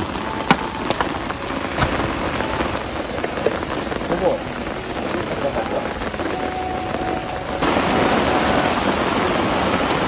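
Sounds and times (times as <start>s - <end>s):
rain patter: 0.0s - 10.0s.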